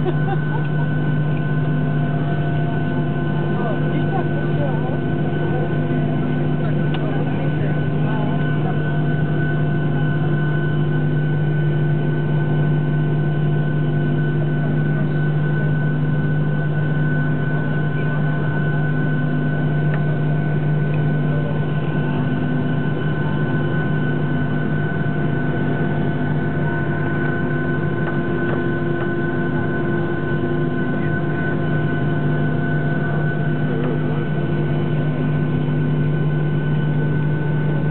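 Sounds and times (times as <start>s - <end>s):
aircraft cabin drone: 0.0s - 37.9s.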